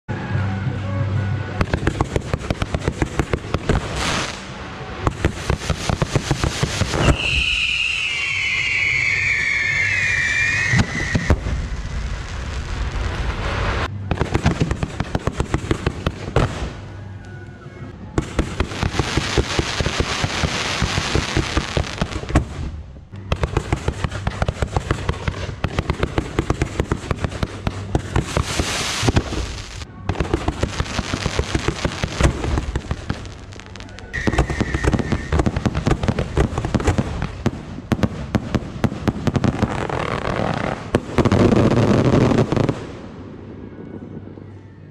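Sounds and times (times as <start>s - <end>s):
fireworks bangs and crackles: 1.4s - 44.6s.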